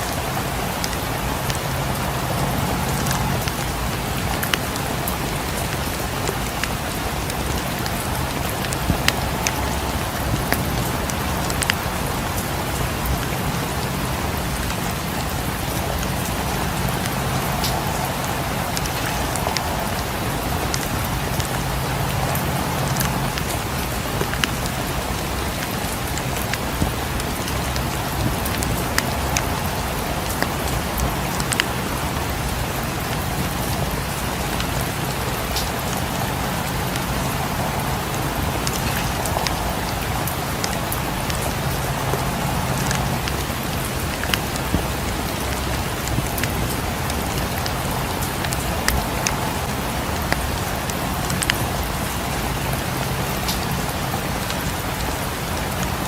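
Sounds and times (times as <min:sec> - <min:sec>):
rain on a cabin: 0:00.0 - 0:56.0
sharp ticks and crackles: 0:00.0 - 0:56.0.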